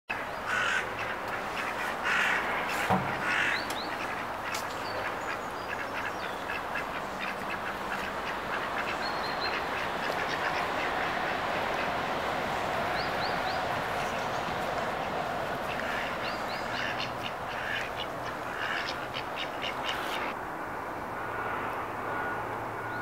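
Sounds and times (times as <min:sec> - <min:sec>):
ducks quacking: 0:00.1 - 0:20.4
ducks walking on grass: 0:00.1 - 0:20.4.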